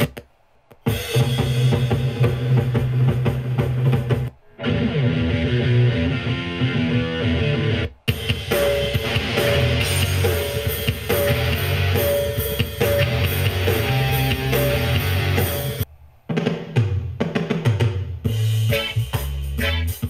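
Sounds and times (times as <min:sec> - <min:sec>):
music with drum beat and bass: 0:00.8 - 0:04.3, 0:06.8 - 0:20.0.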